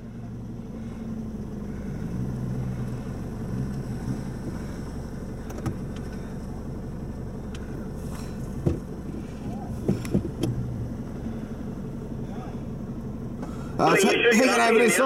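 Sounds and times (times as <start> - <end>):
vehicle engine at low revs: 0.0 - 15.0.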